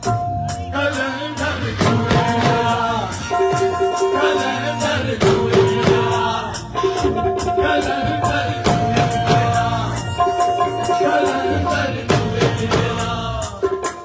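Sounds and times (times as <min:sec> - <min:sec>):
dhol drumming: 0:00.0 - 0:14.0
person singing: 0:00.6 - 0:14.0.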